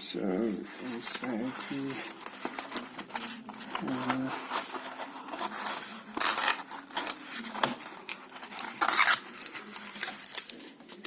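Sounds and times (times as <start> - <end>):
packaging rustling: 0.4 - 11.0.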